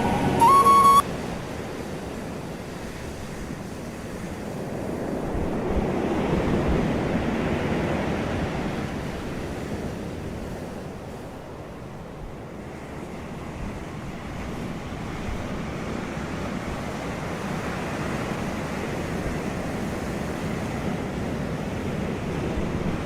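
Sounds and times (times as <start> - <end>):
ocean waves breaking on beach: 1.1 - 23.0.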